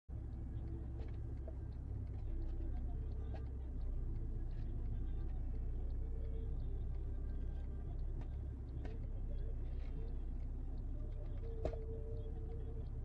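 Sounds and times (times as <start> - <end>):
car engine and road noise: 0.1 - 13.0
faint light ticks: 0.1 - 13.0.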